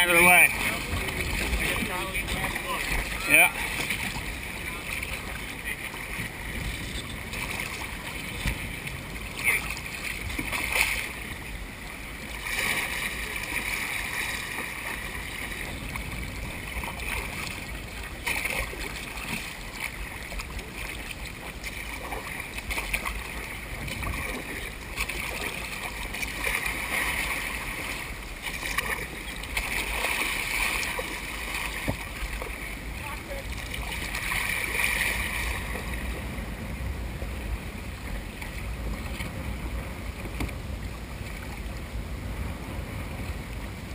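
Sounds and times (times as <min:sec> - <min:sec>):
steady low rumble: 0:00.0 - 0:43.9
water sloshing and splashing: 0:00.0 - 0:43.9.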